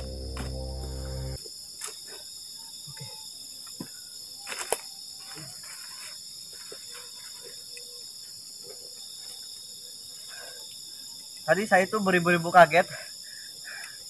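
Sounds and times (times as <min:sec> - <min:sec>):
night insects droning: 0:00.0 - 0:14.0.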